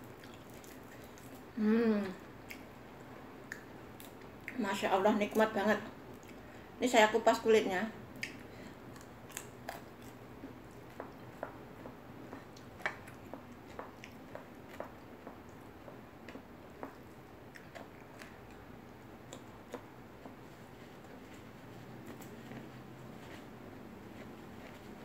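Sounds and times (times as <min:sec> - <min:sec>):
person chewing with wet smacks: 0:00.0 - 0:01.6, 0:02.2 - 0:06.5, 0:08.1 - 0:25.0.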